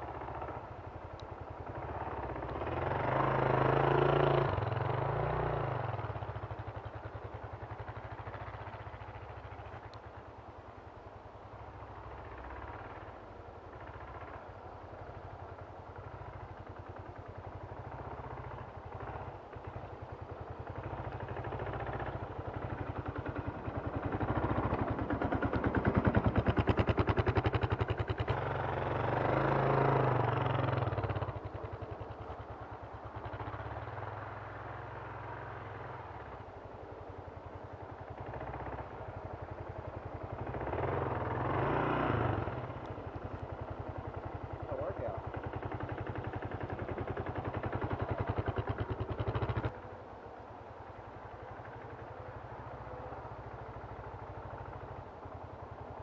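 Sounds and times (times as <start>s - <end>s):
motorcycle engine revving: 0.0s - 9.9s, 15.0s - 36.5s, 37.1s - 56.0s.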